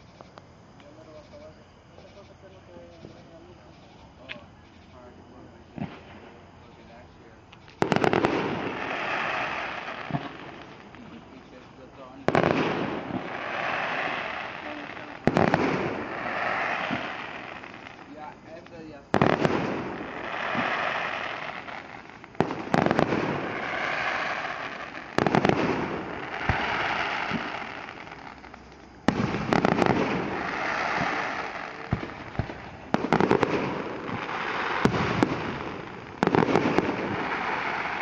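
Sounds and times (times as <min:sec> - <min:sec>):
fireworks crackle and echo: 0:00.0 - 0:38.0
fireworks bangs: 0:00.8 - 0:38.0.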